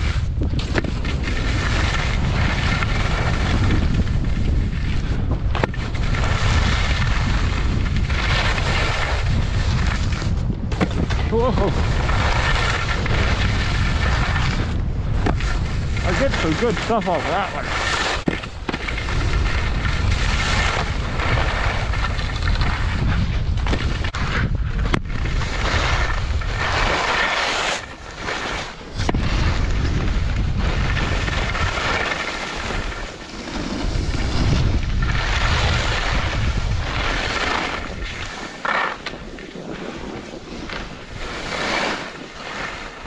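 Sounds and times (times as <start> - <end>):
skis scraping on hard snow: 0.0 - 43.0
wind buffeting microphone: 0.0 - 43.0.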